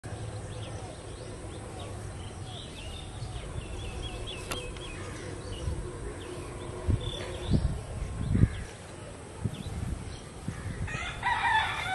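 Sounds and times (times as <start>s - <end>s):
steady low rumble: 0.0s - 11.2s
small birds chirping: 0.0s - 11.9s.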